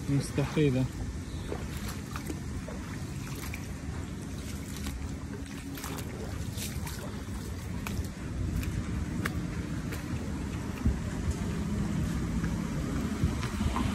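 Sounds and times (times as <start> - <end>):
rain and wind on microphone: 0.0 - 13.9
sharp drips or splashes: 0.0 - 13.9.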